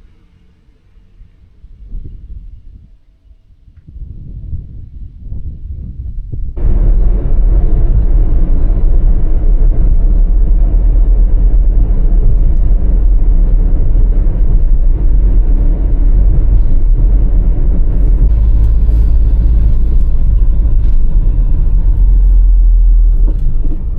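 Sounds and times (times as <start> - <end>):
road noise: 0.0 - 2.6, 6.6 - 23.9
vehicle engine rumble: 0.0 - 23.9.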